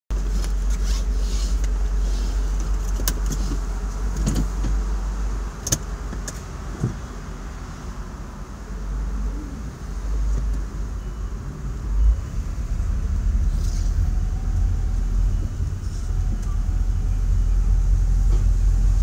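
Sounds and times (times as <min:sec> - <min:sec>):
car engine idling: 0:00.1 - 0:19.0.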